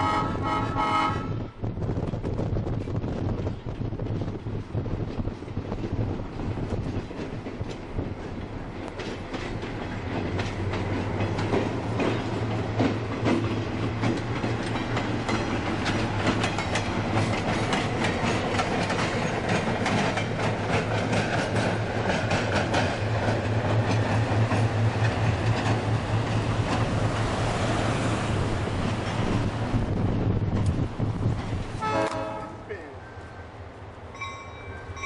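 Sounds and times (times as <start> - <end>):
diesel locomotive engine drone: 0.0 - 35.0
train wheels clicking over rail joints: 1.9 - 32.4.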